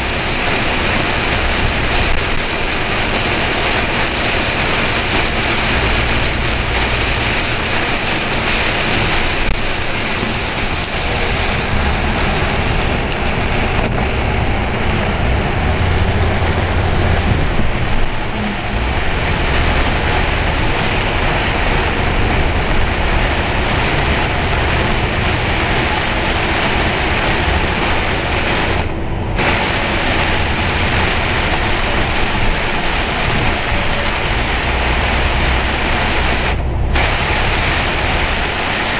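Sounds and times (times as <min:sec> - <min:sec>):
engine and tyres on wet road: 0:00.0 - 0:38.9
heavy rain on vehicle: 0:00.0 - 0:38.9.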